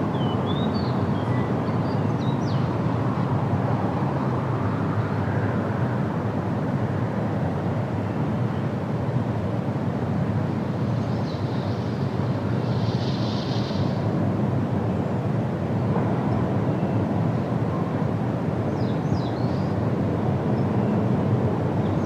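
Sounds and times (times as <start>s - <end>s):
low rumbling background noise: 0.0s - 22.0s.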